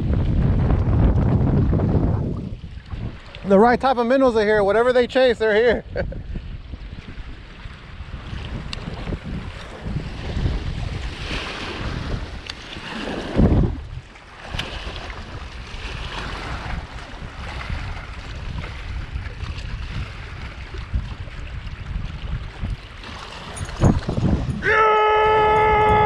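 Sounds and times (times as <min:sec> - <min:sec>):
waves lapping against rocks: 0:00.0 - 0:24.6
wind buffeting microphone: 0:00.0 - 0:26.0.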